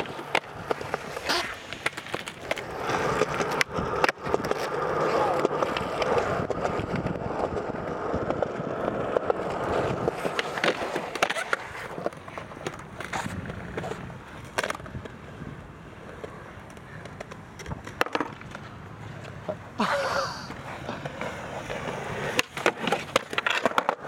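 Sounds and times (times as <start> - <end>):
skateboard clacking on ground: 0.0 - 24.0
skateboard wheels rolling on pavement: 0.0 - 24.0.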